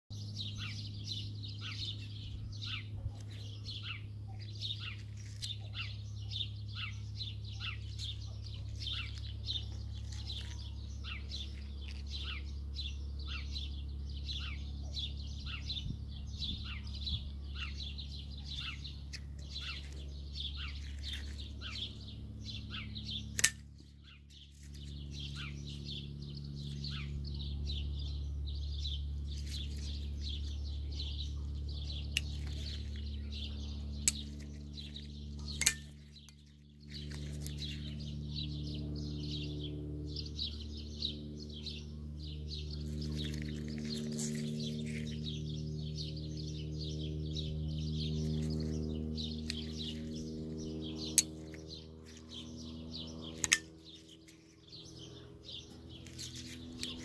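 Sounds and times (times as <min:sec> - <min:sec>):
birds chirping: 0:00.1 - 0:57.0
steady low hum: 0:00.1 - 0:57.0.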